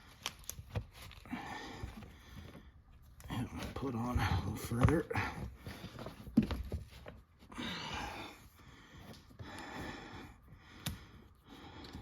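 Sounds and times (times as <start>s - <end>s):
noisy breaths: 0.0s - 12.0s.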